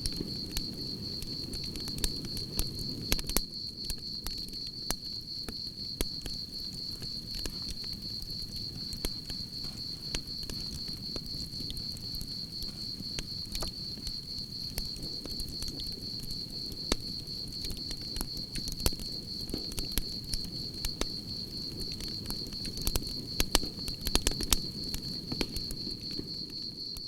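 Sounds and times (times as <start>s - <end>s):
campfire crackling and popping: 0.0s - 27.0s
crickets chirping: 0.0s - 27.0s.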